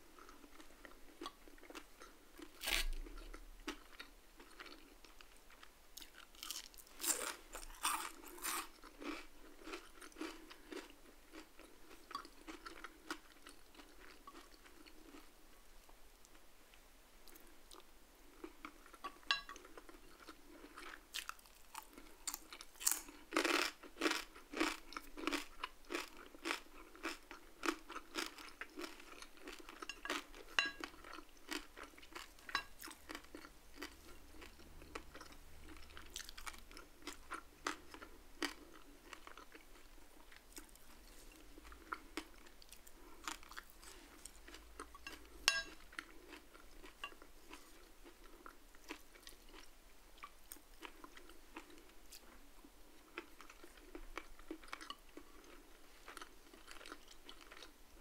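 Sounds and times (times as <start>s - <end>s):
chewing crispy food: 0.0s - 16.4s, 17.2s - 58.0s.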